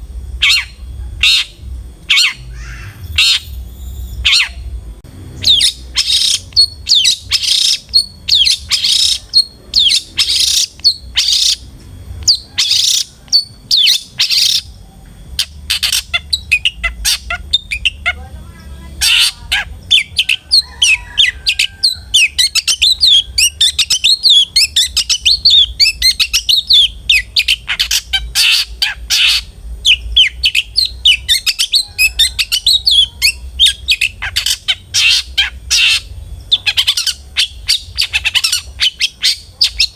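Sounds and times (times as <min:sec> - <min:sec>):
shrike chattering twittering notes: 0:00.4 - 0:04.7, 0:05.3 - 0:39.9
shrike harsh rasping calls: 0:00.4 - 0:14.8, 0:15.4 - 0:39.9.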